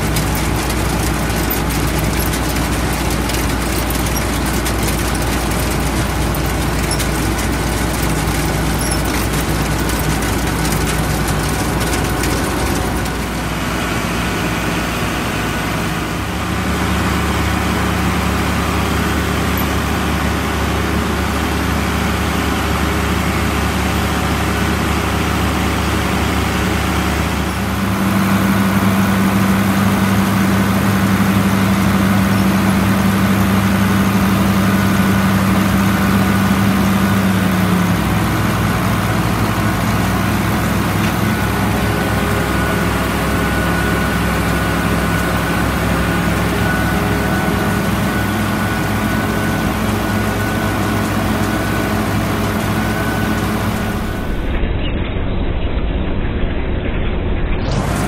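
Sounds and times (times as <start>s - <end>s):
heavy machinery engines running: 0.0s - 58.0s.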